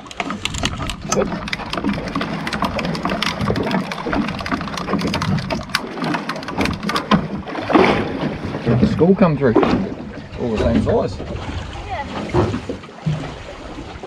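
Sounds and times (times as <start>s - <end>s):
water slapping against boat: 0.0s - 14.0s.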